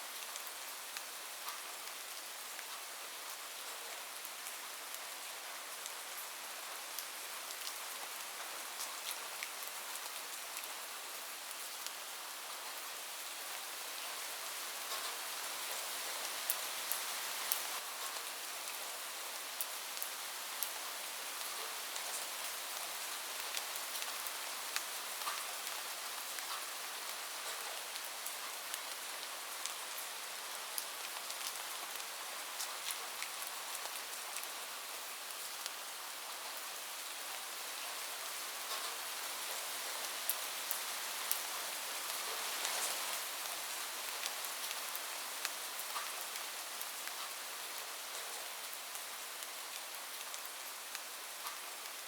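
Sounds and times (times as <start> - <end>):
heavy rain on a roof: 0.0 - 52.0.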